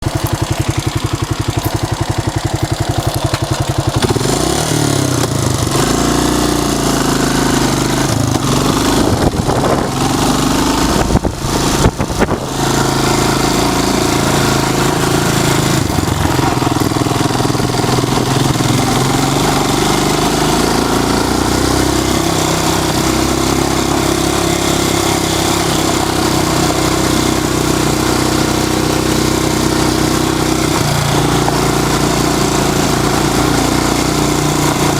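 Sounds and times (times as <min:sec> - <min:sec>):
motorcycle engine idling and pulling away: 0:00.0 - 0:34.9.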